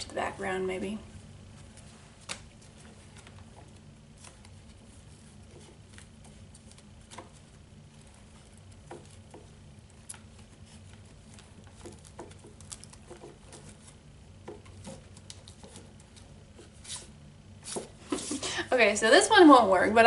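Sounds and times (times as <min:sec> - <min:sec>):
low steady hum: 0:00.0 - 0:20.0
paper cards rustling: 0:01.6 - 0:18.4.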